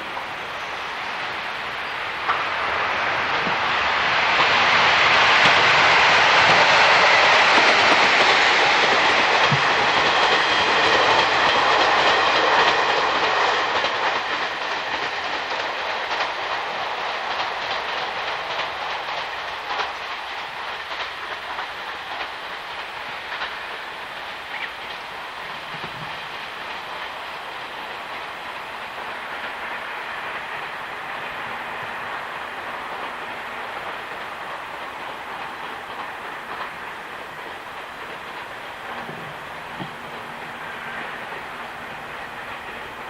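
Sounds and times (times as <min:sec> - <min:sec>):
train wheels clicking on rails: 0:00.0 - 0:43.0.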